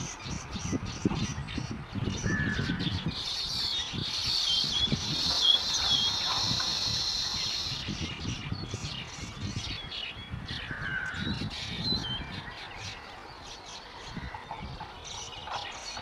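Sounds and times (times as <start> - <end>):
birds chirping and chattering: 0.0 - 16.0.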